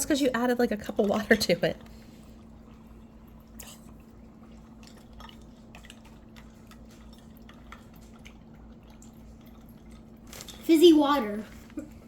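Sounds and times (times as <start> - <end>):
dry ice bubbling in juice: 0.0 - 12.0
steady low hum: 0.0 - 12.0.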